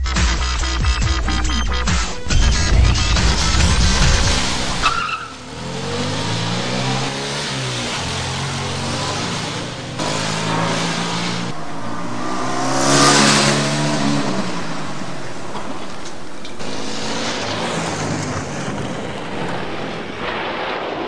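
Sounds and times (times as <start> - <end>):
car engine revving: 0.0 - 20.6
tyre noise: 1.2 - 20.2.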